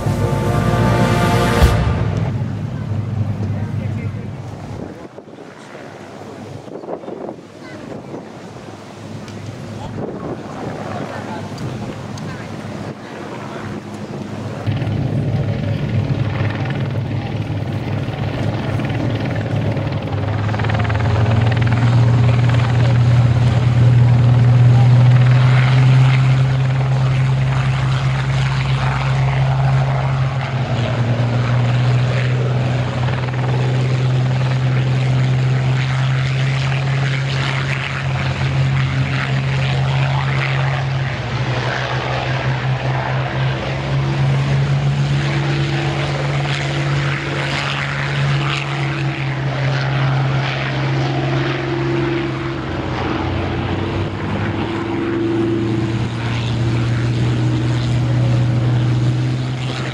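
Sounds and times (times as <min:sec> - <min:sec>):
piston aero engines droning: 0:00.0 - 0:59.9.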